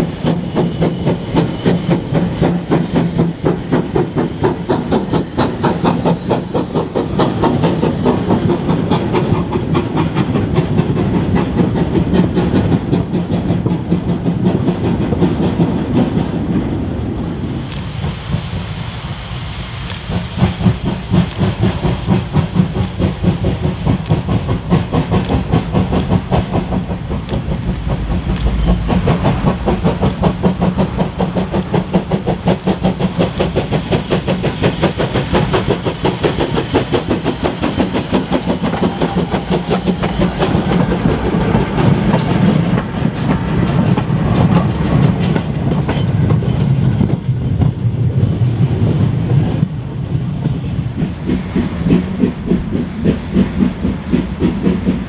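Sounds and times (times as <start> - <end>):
steam hissing: 0.0 - 55.0
steam locomotive beat: 0.0 - 55.0.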